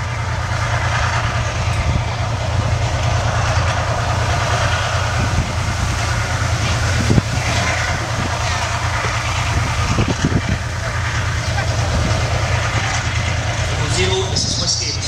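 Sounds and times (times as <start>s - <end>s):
vehicle engine rumble: 0.0s - 15.0s
wind buffeting microphone: 0.0s - 15.0s.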